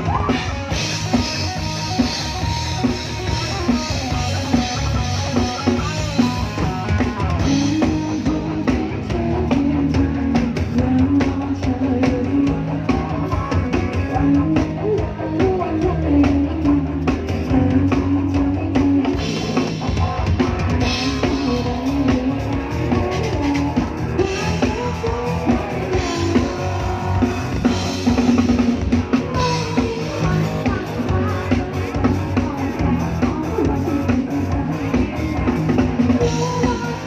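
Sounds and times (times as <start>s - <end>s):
guitar melody: 0.0s - 11.6s, 12.6s - 37.0s
drum kit with bass drum: 0.0s - 37.0s.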